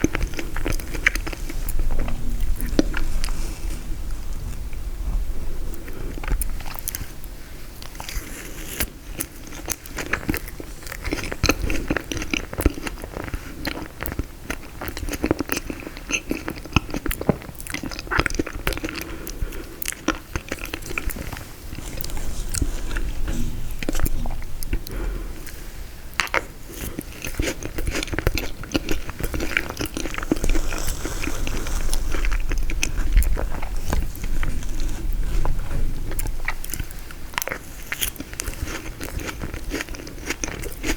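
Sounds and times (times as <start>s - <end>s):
chewing frozen cake crunches: 0.0s - 40.9s.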